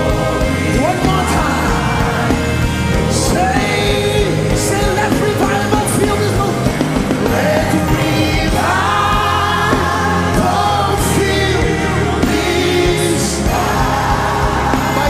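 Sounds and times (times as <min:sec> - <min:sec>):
band playing: 0:00.0 - 0:15.0
congregation singing: 0:00.0 - 0:15.0.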